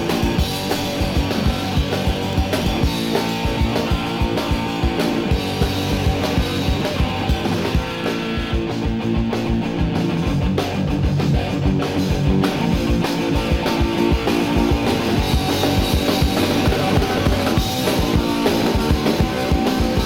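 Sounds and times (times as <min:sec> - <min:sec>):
fast drum beats: 0:00.0 - 0:20.0
punk rock guitar: 0:00.0 - 0:20.0.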